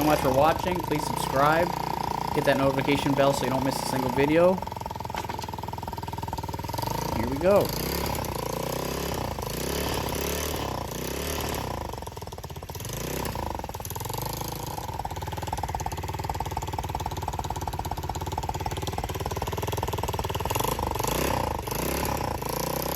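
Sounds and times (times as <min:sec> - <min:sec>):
motorbike engine revving: 0:00.0 - 0:22.9.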